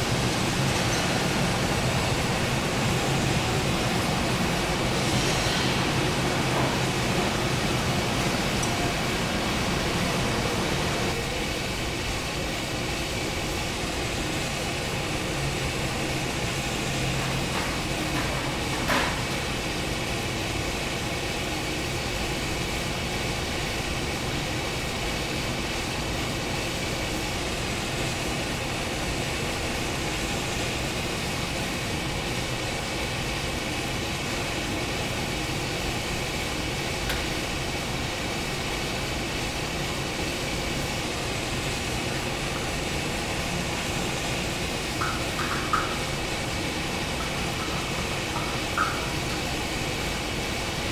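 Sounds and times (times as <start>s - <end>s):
factory machinery running: 0.0s - 50.9s.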